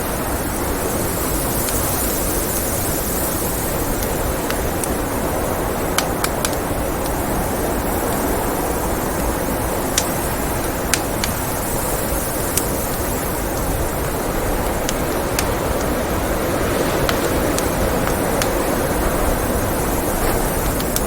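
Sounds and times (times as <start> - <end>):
blizzard wind blowing: 0.0 - 21.0
wood fire crackling and popping: 0.0 - 21.0.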